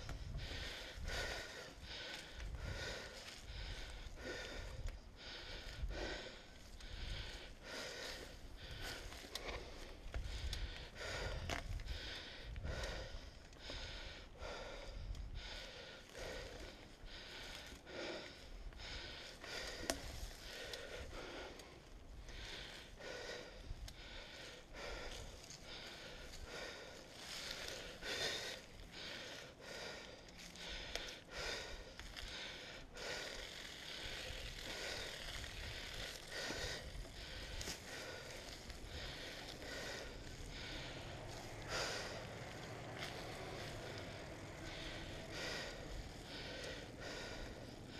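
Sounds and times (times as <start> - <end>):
person breathing hard: 0.0 - 47.9
rustle of moving along dirt trail: 0.0 - 47.9.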